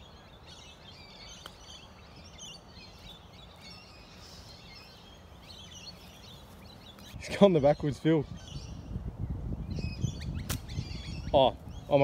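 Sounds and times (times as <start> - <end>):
birds chirping and calling: 0.0 - 12.0
faint outdoor background noise: 0.0 - 12.0.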